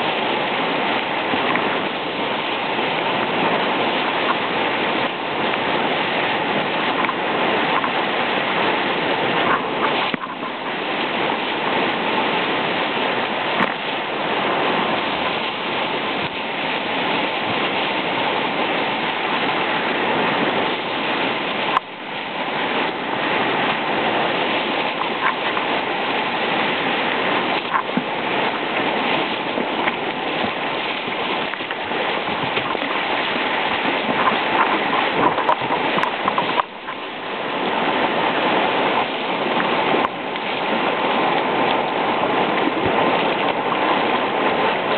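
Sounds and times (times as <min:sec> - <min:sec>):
whitewater rushing and splashing: 0:00.0 - 0:44.9.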